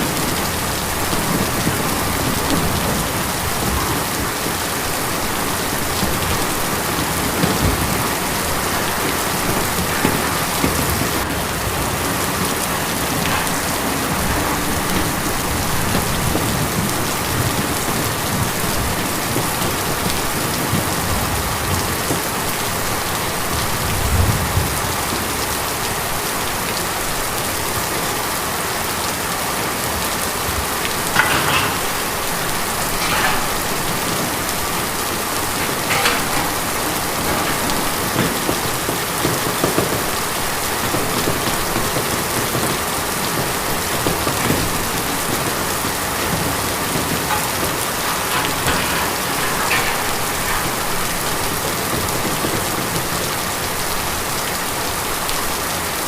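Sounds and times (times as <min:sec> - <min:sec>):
louder raindrops: 0:00.0 - 0:56.0
rain on a tin roof: 0:00.0 - 0:56.0.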